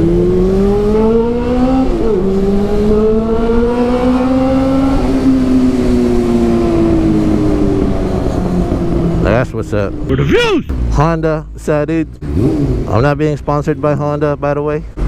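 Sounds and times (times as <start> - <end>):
motorcycle engine accelerating: 0.0 - 11.2, 12.1 - 13.1.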